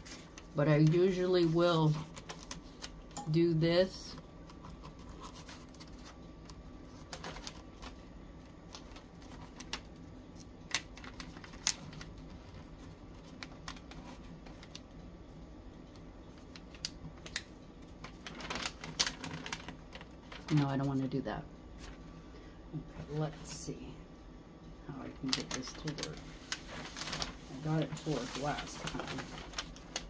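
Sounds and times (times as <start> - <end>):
wrapping paper crinkling: 0.0 - 3.1, 4.1 - 14.9, 15.9 - 21.1, 25.0 - 30.0
low steady hum: 0.0 - 30.0.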